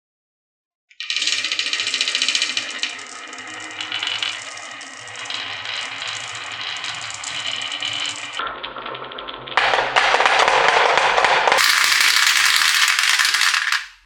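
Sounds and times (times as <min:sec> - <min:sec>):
marbles rattling down wooden run: 0:01.0 - 0:14.0.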